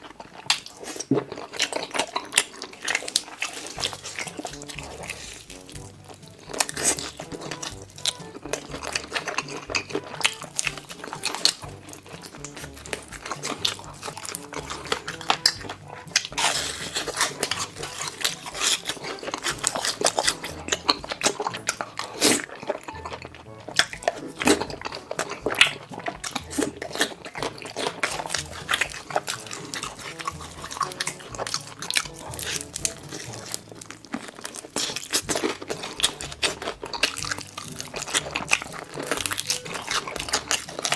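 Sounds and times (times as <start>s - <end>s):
crunching and chewing food: 0.0s - 40.9s
background music with bass: 3.6s - 40.9s.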